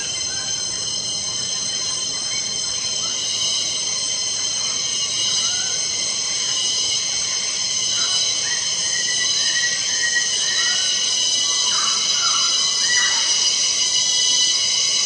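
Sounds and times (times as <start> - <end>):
insect chorus shrilling: 0.0 - 15.0.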